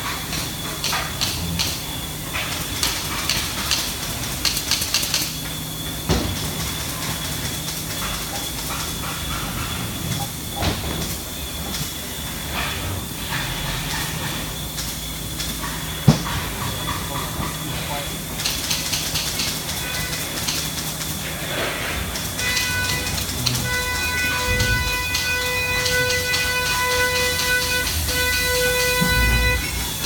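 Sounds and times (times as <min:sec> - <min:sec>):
machine hum with hiss: 0:00.0 - 0:30.0.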